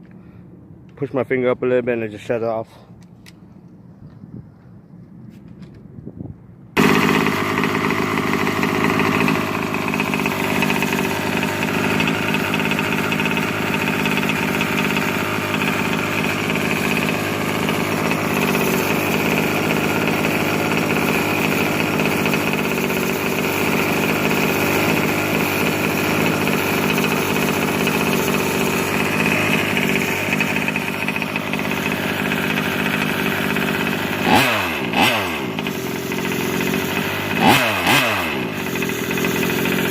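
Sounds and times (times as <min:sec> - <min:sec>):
small two-stroke engine idling: 0:06.8 - 0:39.9.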